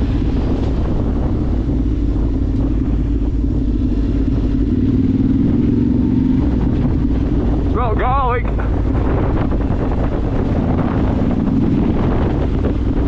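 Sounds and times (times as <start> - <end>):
low rumble: 0.0 - 13.0
motorcycle engine running: 0.0 - 13.0.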